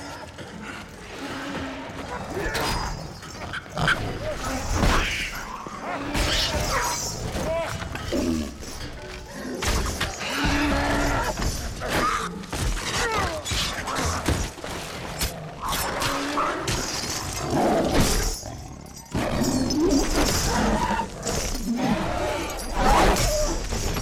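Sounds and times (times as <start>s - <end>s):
crashes and smashes: 2.2s - 24.0s.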